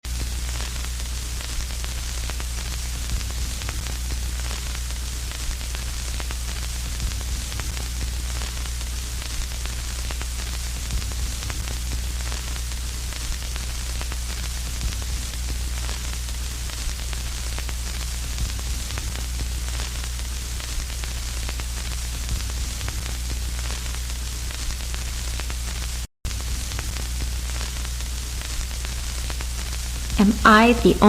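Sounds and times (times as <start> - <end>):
static crackles: 0.1 - 31.0
static hiss: 0.1 - 31.0.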